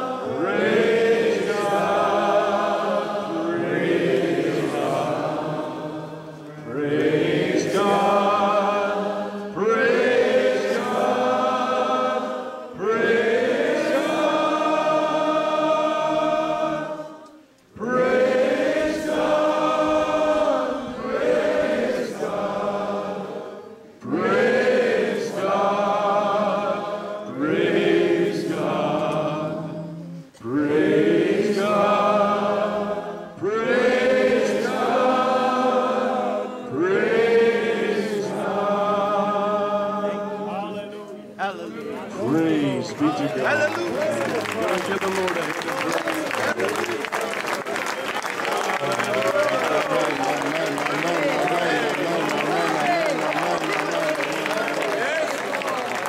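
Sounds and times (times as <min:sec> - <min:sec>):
crowd singing a worship song: 0:00.0 - 0:44.8, 0:48.5 - 0:56.0.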